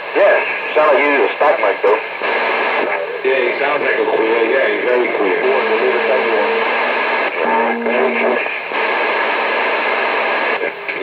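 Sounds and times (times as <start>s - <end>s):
radio static hiss: 0.0s - 11.0s
garbled radio voices: 0.1s - 9.2s.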